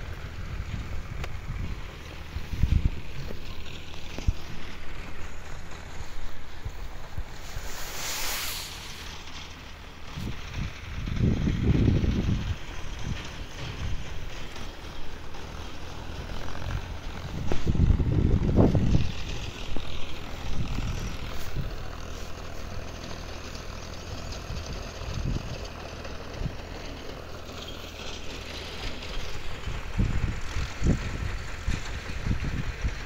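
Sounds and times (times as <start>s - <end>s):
wind buffeting microphone: 0.0s - 27.3s, 27.9s - 33.0s.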